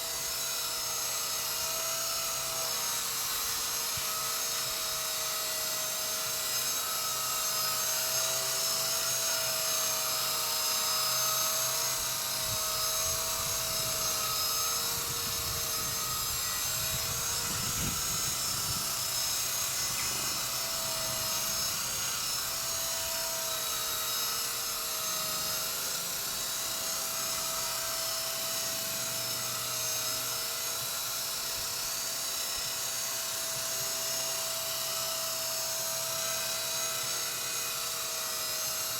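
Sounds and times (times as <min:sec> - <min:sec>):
rc helicopter rotor whine: 0:00.0 - 0:38.9.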